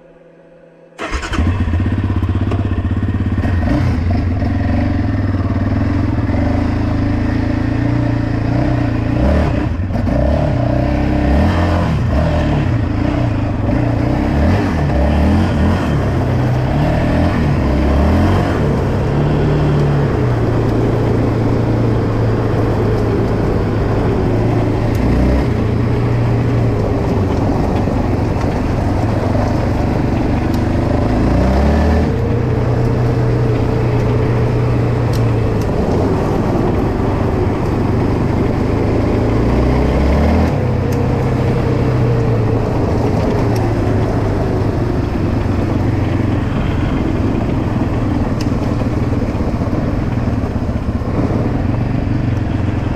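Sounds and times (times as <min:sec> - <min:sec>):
atv engine revving: 0:00.9 - 0:52.9.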